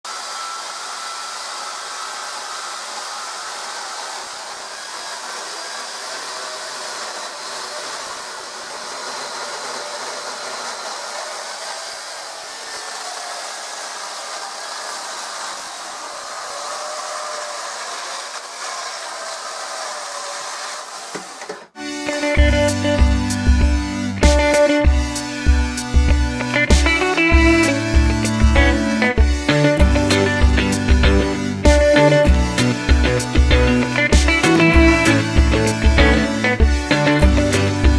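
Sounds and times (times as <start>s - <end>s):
electric chainsaw cutting log: 0.0s - 37.9s.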